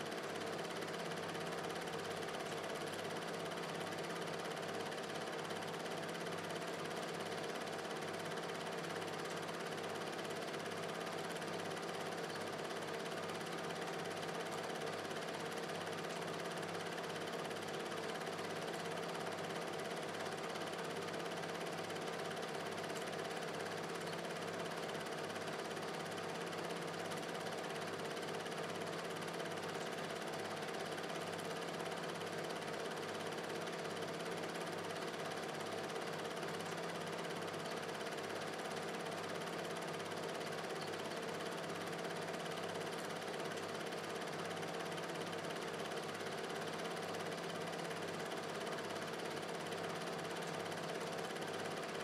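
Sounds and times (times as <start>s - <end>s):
film projector whirring: 0.0s - 52.0s.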